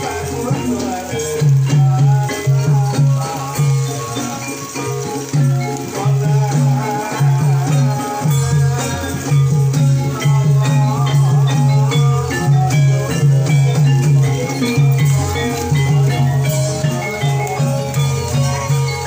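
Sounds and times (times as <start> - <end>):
mallet-struck keyed instruments melody: 0.0 - 19.0.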